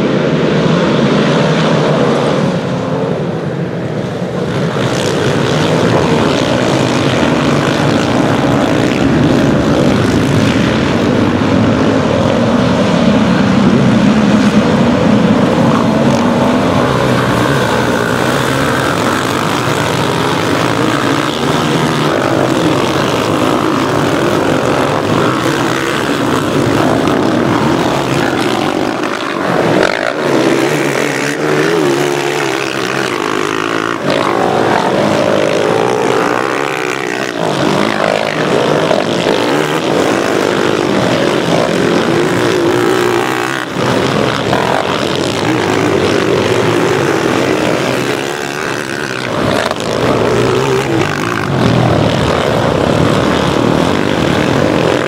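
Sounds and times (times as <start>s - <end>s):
quad bike engines revving: 0.0s - 55.0s.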